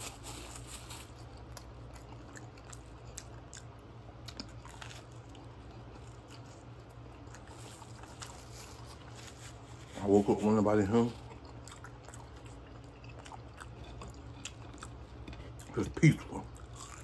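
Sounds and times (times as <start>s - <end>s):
crisp bread crunching: 0.0s - 17.0s
person chewing a toasted sandwich: 0.0s - 17.0s.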